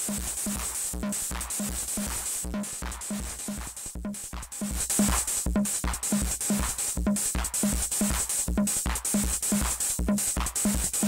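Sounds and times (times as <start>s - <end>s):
acid electronic music: 0.0s - 11.0s.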